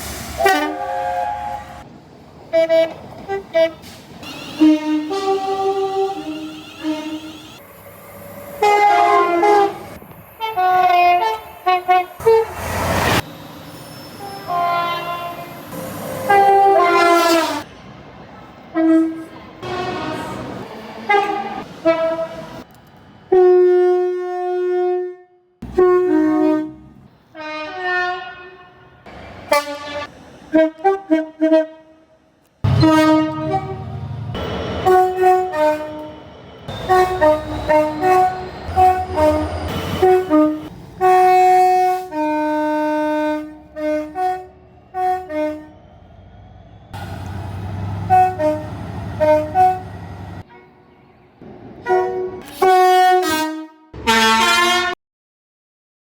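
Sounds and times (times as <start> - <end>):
train horn blasts: 0.4 - 1.9, 2.5 - 7.6, 8.6 - 13.2, 14.2 - 17.7, 18.7 - 22.5, 23.3 - 34.1, 34.8 - 45.8, 47.9 - 50.8, 51.8 - 55.0.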